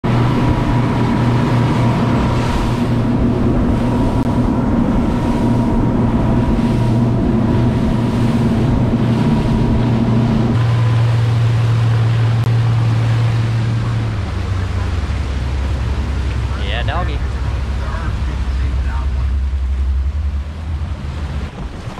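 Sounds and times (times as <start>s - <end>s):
boat wake rushing: 0.0s - 21.9s
outboard motors running: 0.0s - 21.9s.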